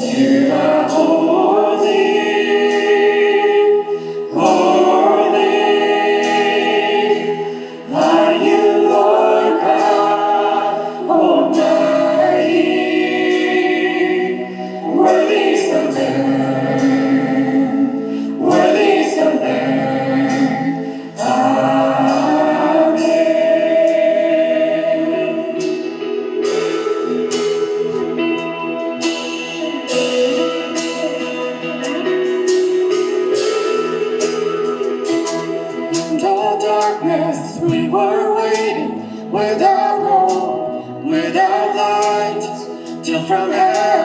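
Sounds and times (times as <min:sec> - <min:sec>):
band playing a steady beat: 0:00.0 - 0:44.0
choir singing held notes: 0:00.0 - 0:44.0.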